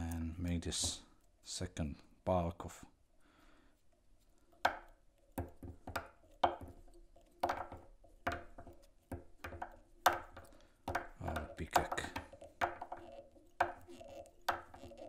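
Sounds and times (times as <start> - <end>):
thread wrapping taps and ticks: 0.0 - 1.4, 3.9 - 15.0.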